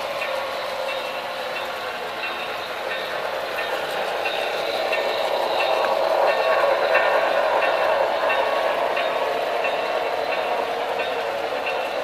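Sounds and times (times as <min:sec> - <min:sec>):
model trains rattling on track: 0:00.0 - 0:12.0.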